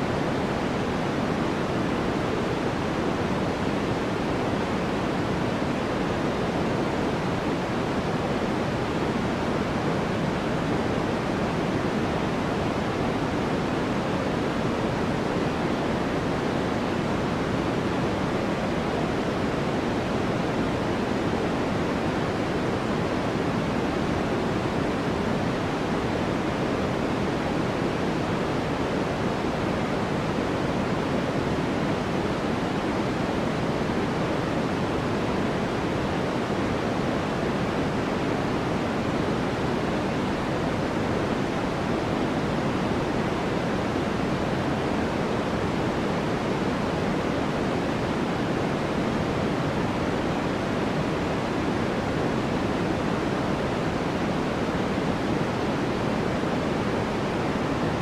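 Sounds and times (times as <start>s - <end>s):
deep white noise hiss: 0.0s - 58.0s.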